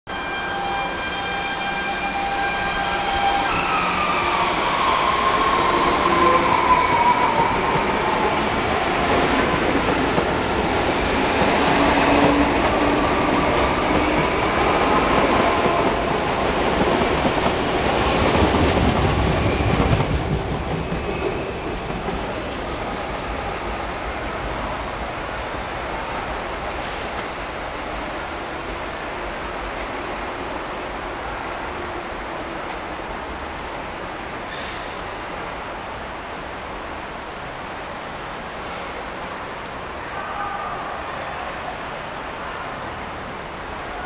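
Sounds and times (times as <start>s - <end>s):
train wheels rumbling on track: 1.9s - 44.0s.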